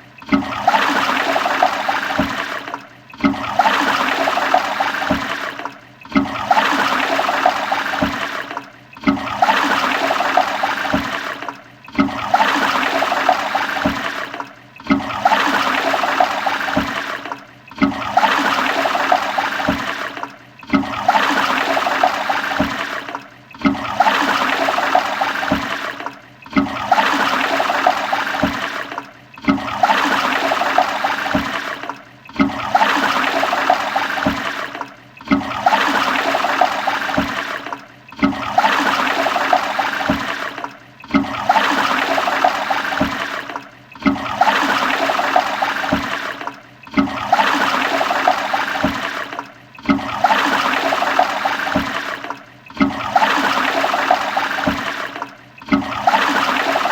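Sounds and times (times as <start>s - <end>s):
toilet flushing: 0.0s - 56.9s.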